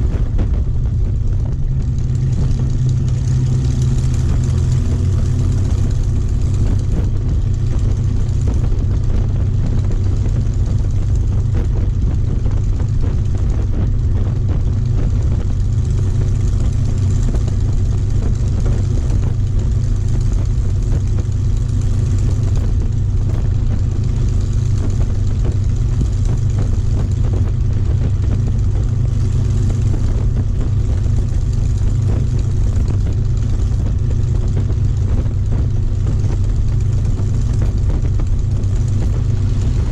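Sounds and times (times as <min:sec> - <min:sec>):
piston aero engine droning: 0:00.0 - 0:39.9.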